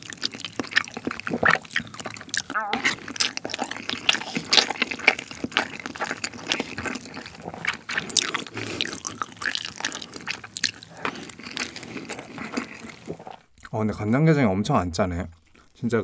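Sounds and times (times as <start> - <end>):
wet chewing and lip-smacking: 0.0 - 13.8, 15.3 - 15.9.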